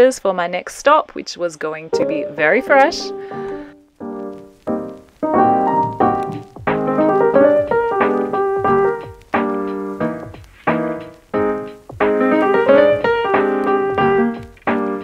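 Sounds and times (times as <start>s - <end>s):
gentle piano melody: 1.9s - 15.0s.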